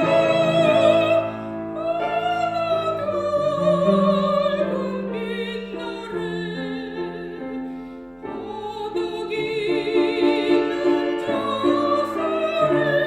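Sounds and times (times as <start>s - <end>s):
piano accompaniment: 0.0s - 13.0s
soprano singing with vibrato: 0.0s - 13.0s.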